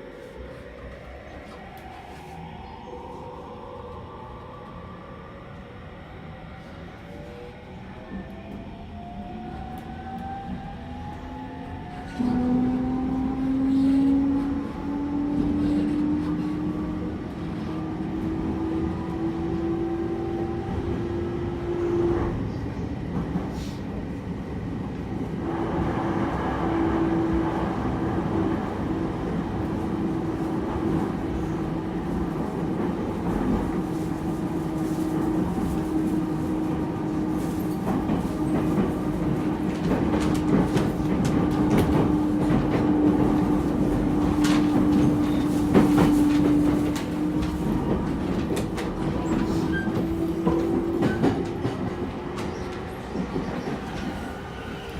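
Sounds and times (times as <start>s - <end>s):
train rumble: 0.0s - 54.9s.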